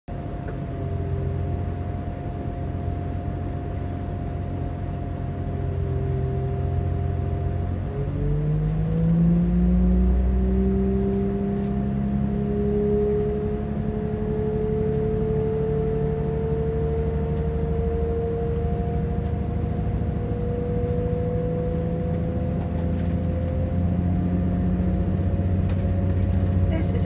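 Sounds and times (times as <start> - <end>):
diesel train engine revving: 0.1 - 27.0.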